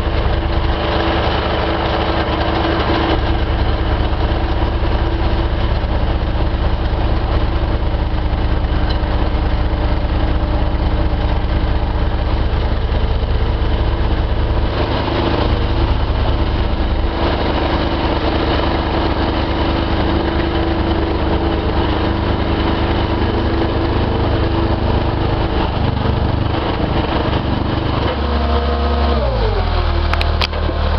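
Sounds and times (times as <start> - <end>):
plate compactor vibrating drone: 0.0 - 30.9.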